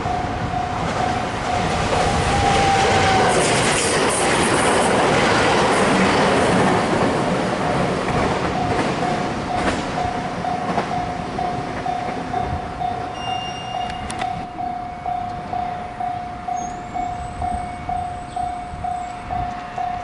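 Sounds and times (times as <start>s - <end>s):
crossing warning bell ringing: 0.0s - 3.7s, 5.8s - 20.0s
train wheels clacking on rails: 0.0s - 20.0s.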